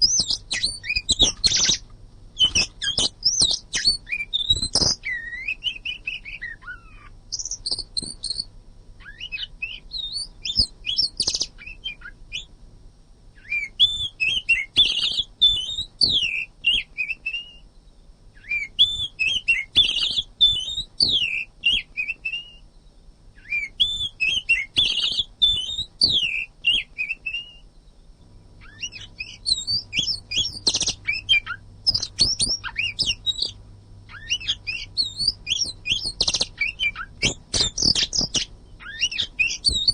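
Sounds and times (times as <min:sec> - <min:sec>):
songbird singing whistled notes: 0:00.0 - 0:12.5, 0:13.3 - 0:39.9.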